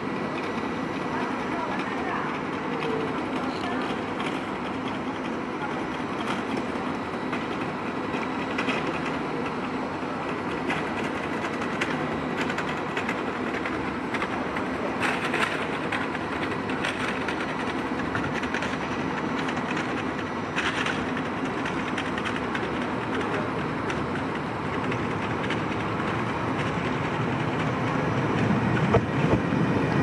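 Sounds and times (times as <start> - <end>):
train wheels rumbling on rails: 0.0 - 30.0
rapid clicking from track: 0.3 - 30.0.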